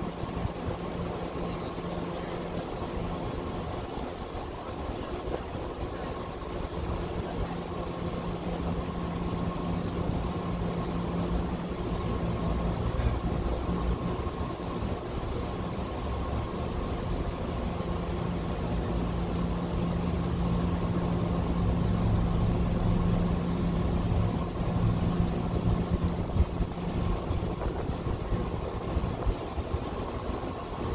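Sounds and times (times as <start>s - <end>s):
low mechanical hum: 0.0s - 30.9s.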